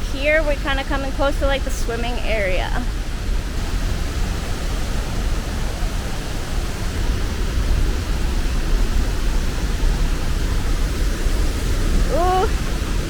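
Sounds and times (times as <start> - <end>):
deep water rumble: 0.0 - 13.0
waterfall rushing: 0.9 - 13.0.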